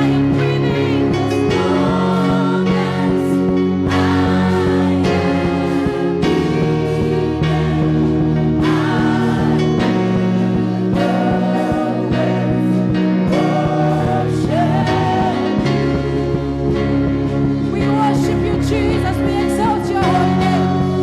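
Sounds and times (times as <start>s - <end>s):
sustained keyboard chords: 0.0s - 21.0s
voices singing: 0.0s - 21.0s.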